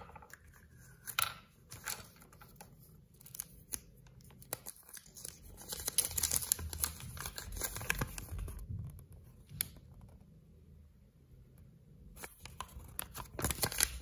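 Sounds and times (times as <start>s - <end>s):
paper leaflet crinkling: 0.4s - 9.9s, 12.2s - 14.0s.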